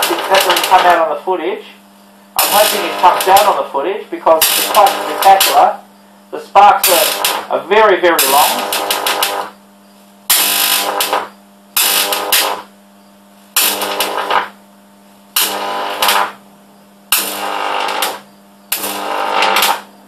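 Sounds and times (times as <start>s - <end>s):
faint low hum: 0.0s - 20.0s
high-voltage arc crackling: 0.0s - 20.0s.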